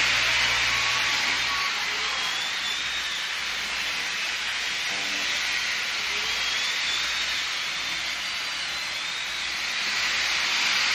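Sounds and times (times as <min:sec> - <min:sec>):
faint high whistling tones: 0:00.0 - 0:10.9.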